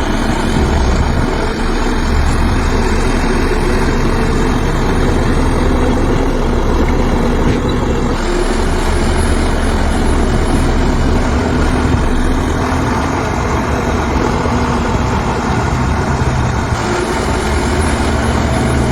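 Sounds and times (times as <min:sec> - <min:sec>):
diesel machinery engines running: 0:00.0 - 0:18.9.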